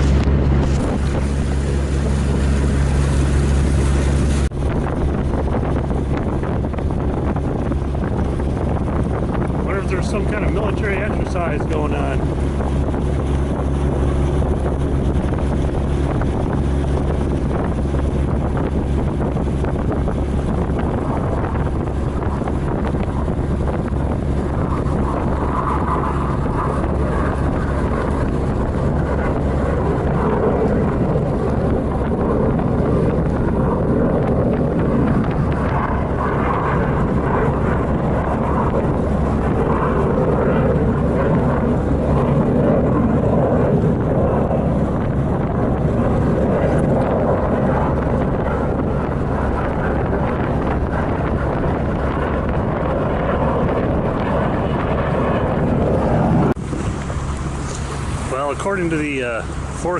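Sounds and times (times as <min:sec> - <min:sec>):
broad rushing sound: 0:00.0 - 0:59.9
engine drone: 0:00.0 - 0:59.9
water noise: 0:00.0 - 0:59.9
wind: 0:00.0 - 0:59.9.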